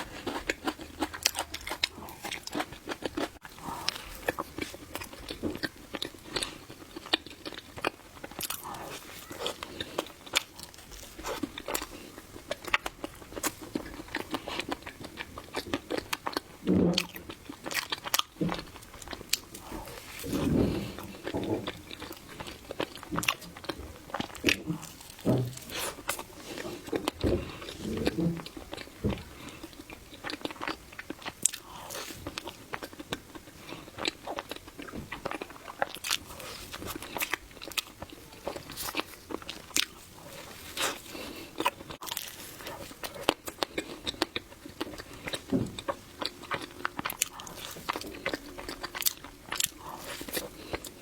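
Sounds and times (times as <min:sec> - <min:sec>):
close-miked chewing of cake: 0:00.0 - 0:51.0.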